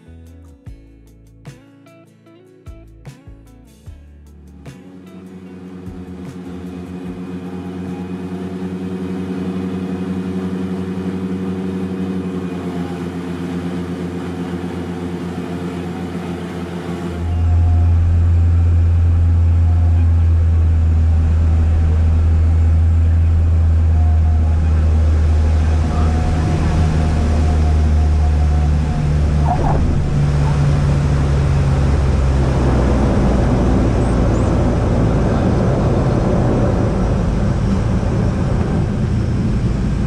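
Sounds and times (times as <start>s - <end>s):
turboprop engines droning: 4.5s - 40.0s.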